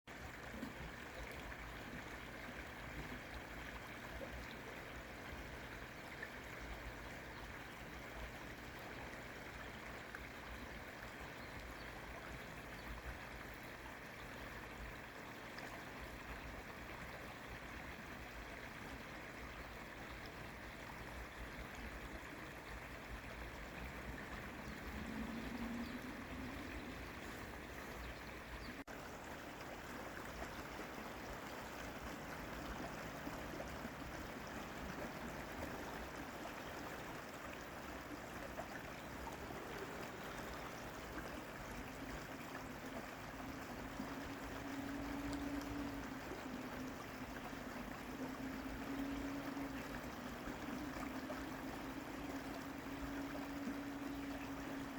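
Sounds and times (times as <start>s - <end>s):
stream water rushing: 0.1s - 54.9s
faint low hum: 0.2s - 54.9s.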